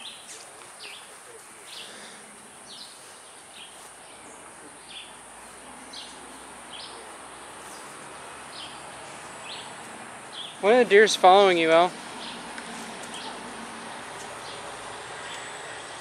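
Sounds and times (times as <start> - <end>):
bird chirping: 0.0 - 15.8.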